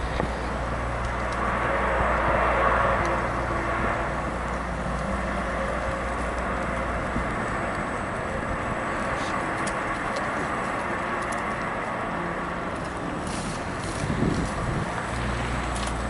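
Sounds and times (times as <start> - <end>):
wind noise: 0.0 - 11.8, 13.2 - 16.0.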